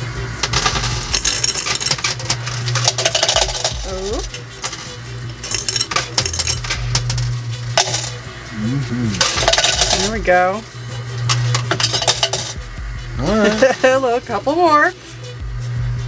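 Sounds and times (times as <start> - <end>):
coins clinking: 0.0 - 15.4
steady low hum: 0.0 - 16.0.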